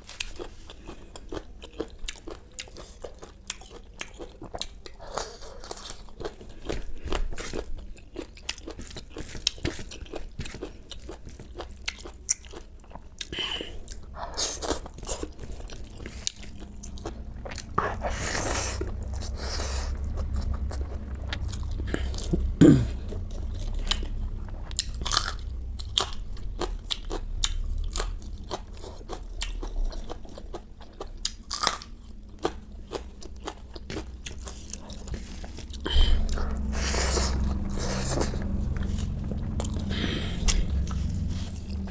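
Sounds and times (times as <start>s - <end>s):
chewing crunchy food: 0.0s - 41.9s.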